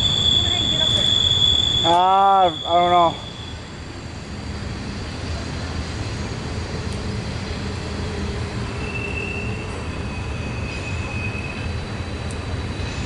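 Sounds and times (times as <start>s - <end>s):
freight train rumbling past: 0.0s - 13.0s
high wheel squeal: 0.0s - 13.0s.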